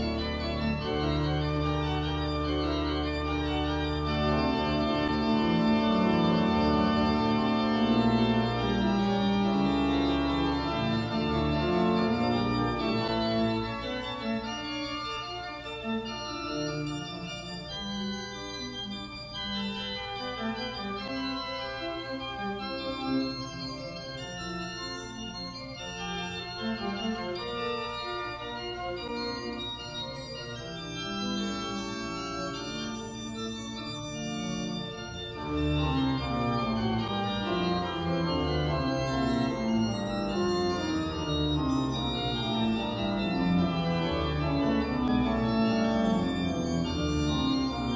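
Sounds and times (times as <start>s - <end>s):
organ playing slow chords: 0.0s - 47.9s.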